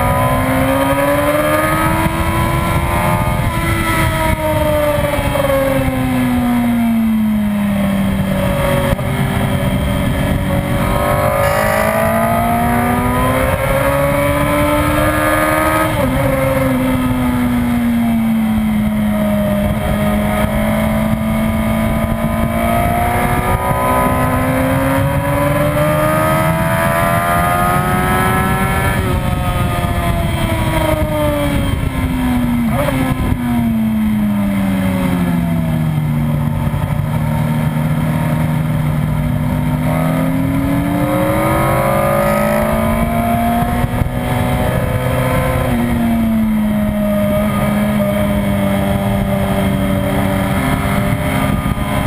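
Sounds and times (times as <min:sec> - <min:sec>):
motorcycle engine at high revs: 0:00.0 - 0:52.0.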